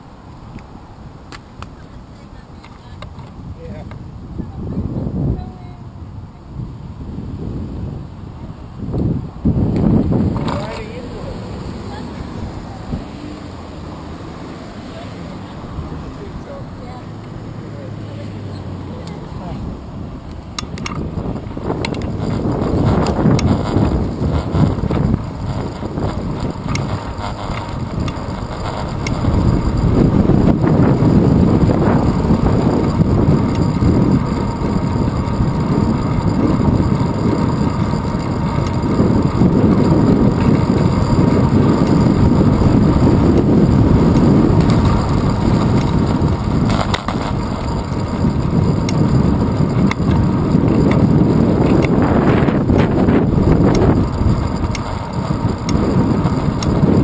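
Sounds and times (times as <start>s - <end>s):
bicycle tyre rumble on road: 0.0s - 57.0s
wind buffeting microphone: 0.0s - 57.0s.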